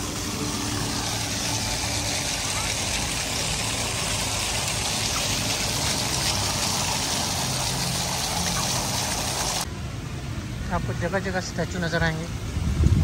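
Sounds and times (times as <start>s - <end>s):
fountain jets splashing on paving: 0.0s - 12.6s.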